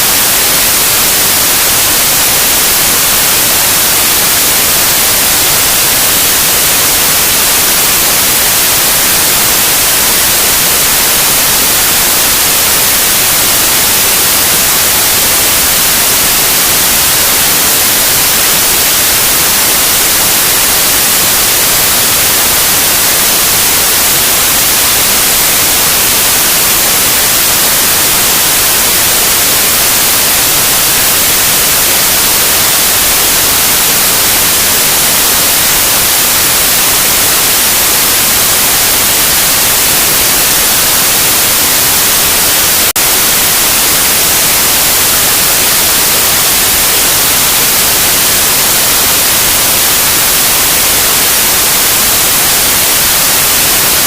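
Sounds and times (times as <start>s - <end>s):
loud white noise hiss: 0.0s - 54.0s.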